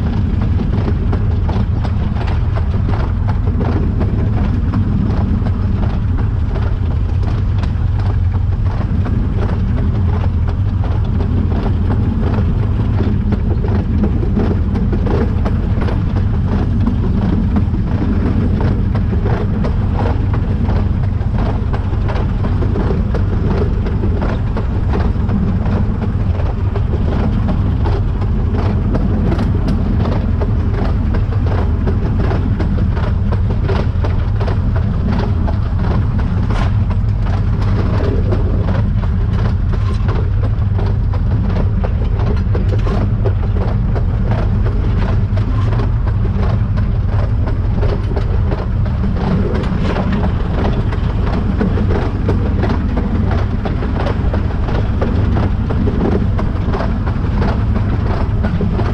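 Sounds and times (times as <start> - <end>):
steam locomotive running: 0.0 - 58.9
wheels clicking on rails: 0.0 - 58.9.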